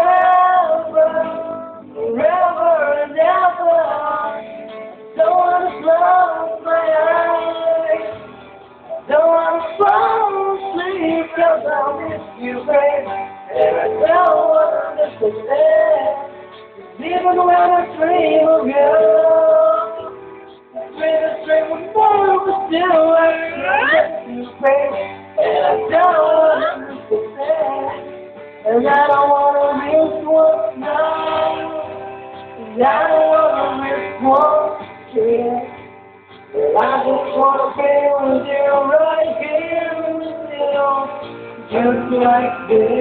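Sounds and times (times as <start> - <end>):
backing track music: 0.0 - 43.0
high voice singing ballad: 0.0 - 43.0.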